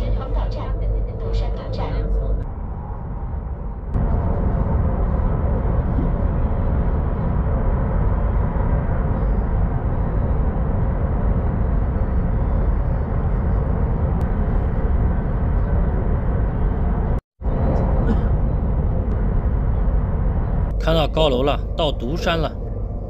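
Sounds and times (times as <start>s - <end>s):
train carriage rumble and rushing: 0.0s - 23.0s.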